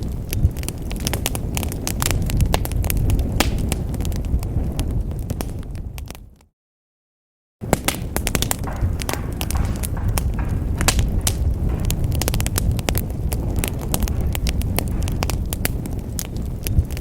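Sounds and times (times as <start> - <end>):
wood fire crackling and popping: 0.0 - 6.4, 7.6 - 17.0.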